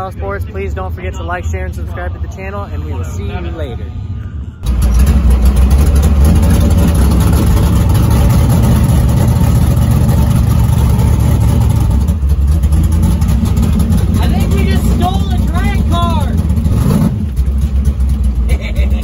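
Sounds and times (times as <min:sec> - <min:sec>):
loud car engine rumble: 0:00.0 - 0:19.0.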